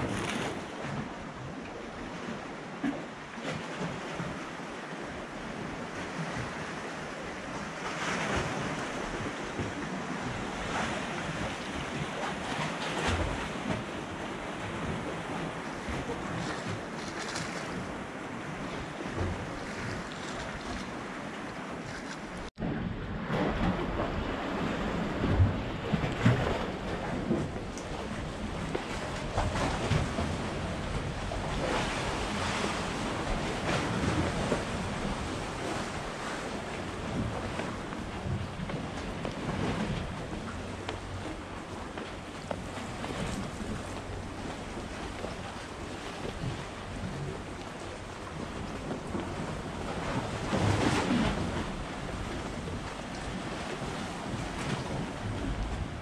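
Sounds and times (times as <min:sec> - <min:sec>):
sea waves washing in: 0:00.0 - 0:56.0
wind gusting on microphone: 0:05.5 - 0:56.0.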